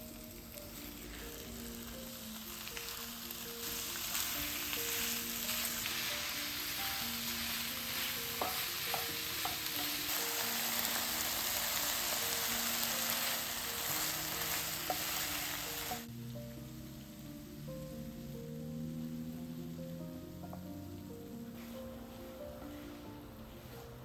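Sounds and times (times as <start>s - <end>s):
food sizzling in a frying pan: 0.0s - 23.3s
soft background music: 0.0s - 24.0s.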